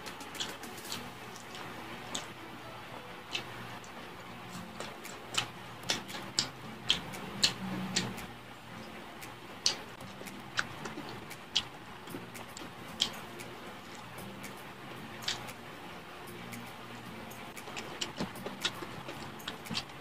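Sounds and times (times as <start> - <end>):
chewing fried chicken: 0.0 - 2.4, 3.2 - 15.7, 16.4 - 20.0.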